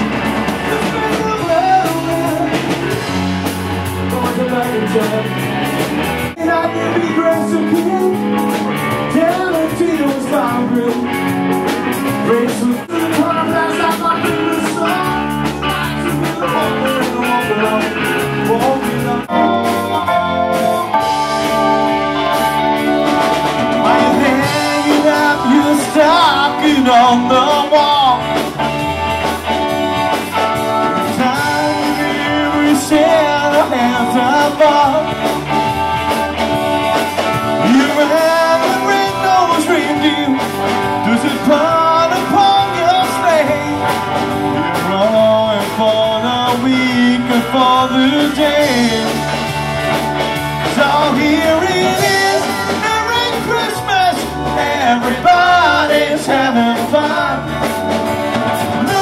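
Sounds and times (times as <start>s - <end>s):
live rock band playing: 0.0s - 59.0s
pitch-bending lead melody: 0.0s - 59.0s.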